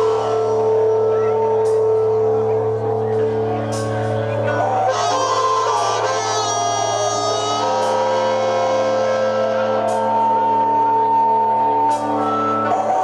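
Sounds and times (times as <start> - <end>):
rock band sustained notes: 0.0 - 13.0.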